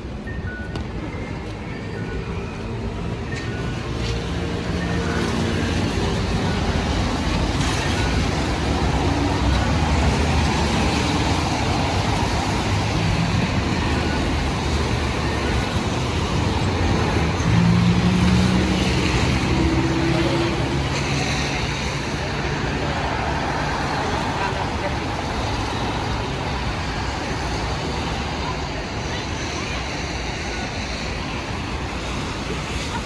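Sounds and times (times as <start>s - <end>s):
tyres hissing on wet road: 5.1s - 33.0s.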